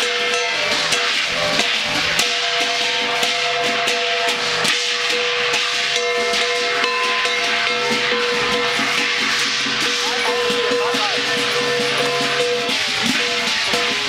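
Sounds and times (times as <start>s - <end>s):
drum beat: 0.0s - 14.0s.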